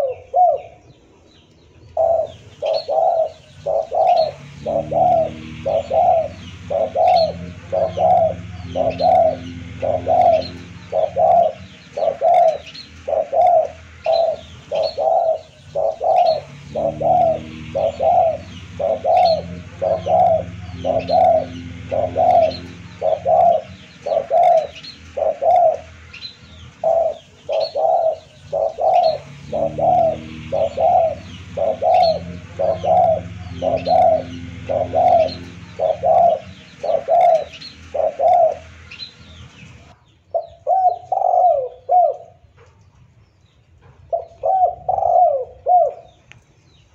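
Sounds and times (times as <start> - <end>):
dove cooing: 0.0 - 0.9, 1.9 - 39.0, 39.6 - 42.5, 44.0 - 46.2.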